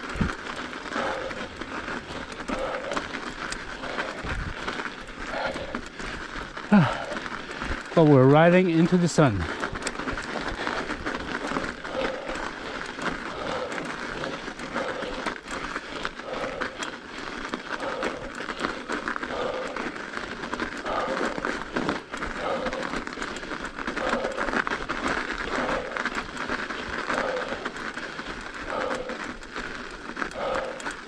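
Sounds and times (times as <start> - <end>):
bike tyres crunching on snow: 0.0 - 31.0
heavy breathing: 0.0 - 31.0.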